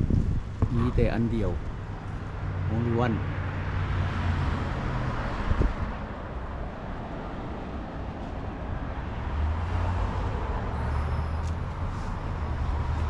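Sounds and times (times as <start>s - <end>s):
distant road traffic rumble: 0.0s - 13.0s.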